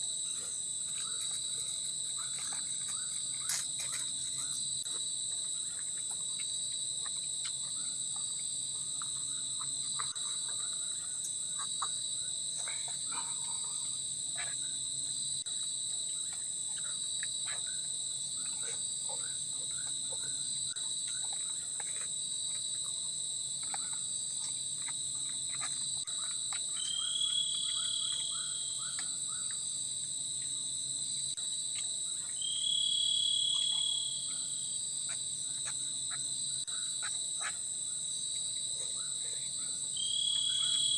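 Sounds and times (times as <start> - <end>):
crickets droning: 0.0 - 40.9
single-pitched insect call: 0.0 - 40.9.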